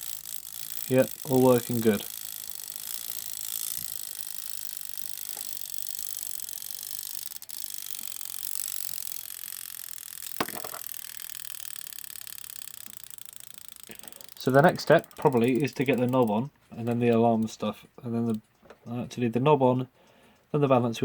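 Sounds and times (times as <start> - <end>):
clock movement clicks: 0.0 - 20.5.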